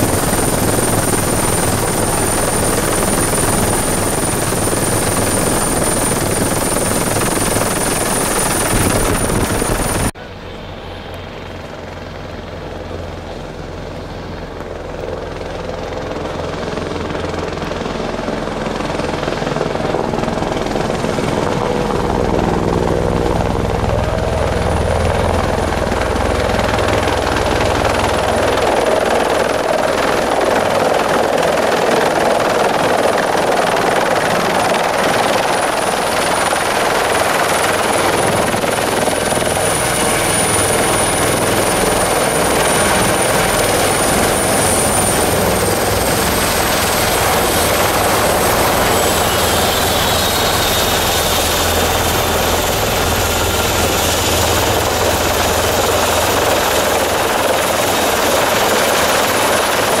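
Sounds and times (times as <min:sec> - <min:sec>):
helicopter rotor and engine: 0:00.0 - 1:00.0.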